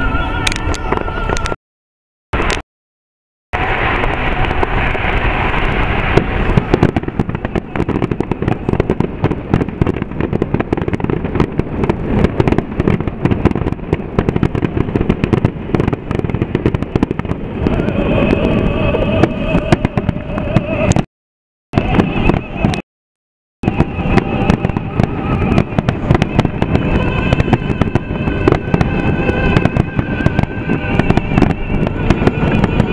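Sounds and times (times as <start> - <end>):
fireworks bangs and crackle: 0.0 - 1.6, 2.4 - 2.6, 3.6 - 21.1, 21.7 - 22.8, 23.6 - 32.9.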